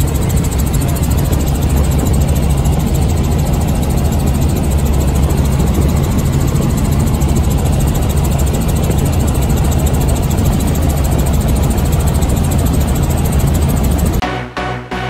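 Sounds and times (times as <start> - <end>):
helicopter engine and rotor drone: 0.0 - 14.2.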